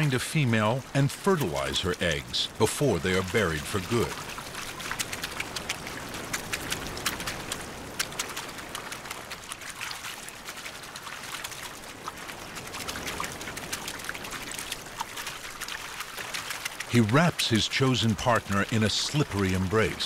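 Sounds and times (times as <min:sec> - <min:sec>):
fish flopping and splashing: 0:00.0 - 0:20.0
water rushing: 0:00.0 - 0:20.0.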